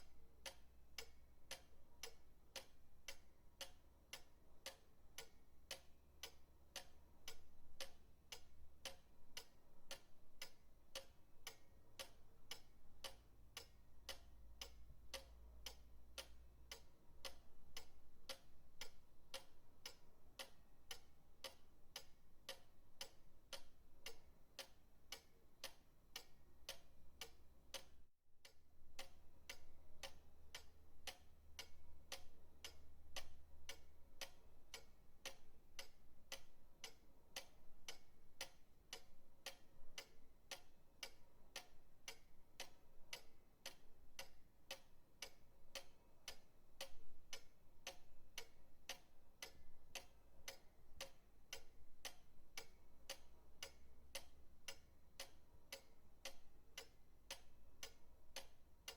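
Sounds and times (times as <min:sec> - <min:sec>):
pendulum clock ticking: 0:00.0 - 0:58.9.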